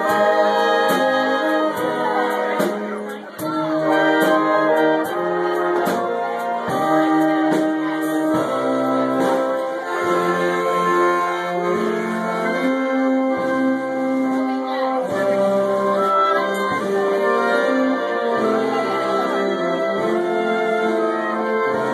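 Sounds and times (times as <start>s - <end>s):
brass band playing: 0.0s - 21.9s.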